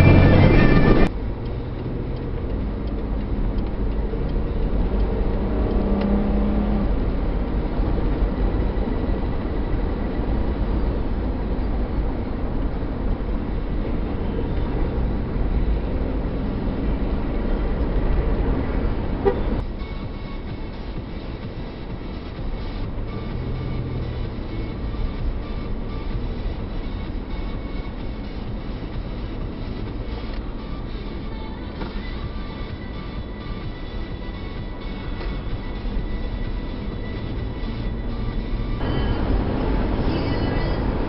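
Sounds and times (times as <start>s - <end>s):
road noise: 0.0s - 41.0s
truck engine rumbling: 0.0s - 41.0s.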